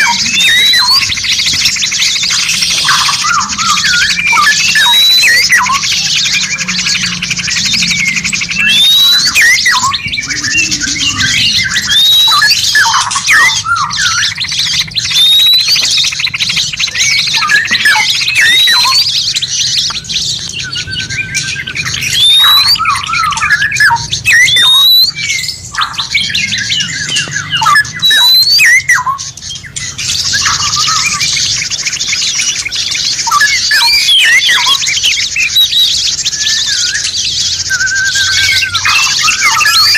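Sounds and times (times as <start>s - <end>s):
songbirds chattering: 0.0s - 39.9s.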